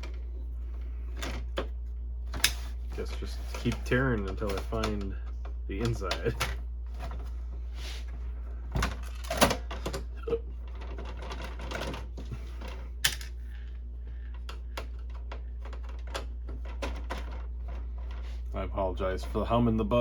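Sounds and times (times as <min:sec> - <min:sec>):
dehumidifier humming: 0:00.0 - 0:20.0.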